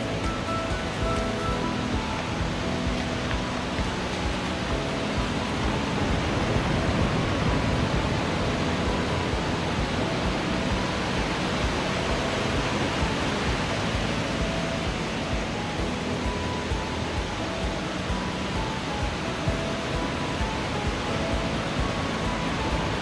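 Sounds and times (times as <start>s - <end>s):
ocean surf breaking on beach: 0.0s - 23.0s.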